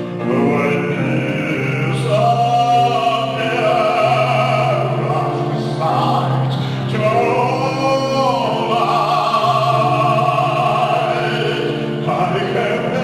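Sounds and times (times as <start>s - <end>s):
baritone operatic singing: 0.0s - 13.0s
piano accompaniment: 0.0s - 13.0s.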